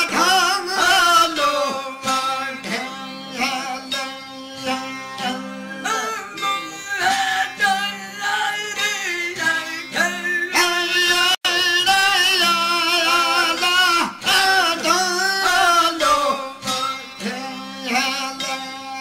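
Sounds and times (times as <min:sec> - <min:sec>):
men singing: 0:00.0 - 0:19.0
strummed drone lutes: 0:00.0 - 0:19.0.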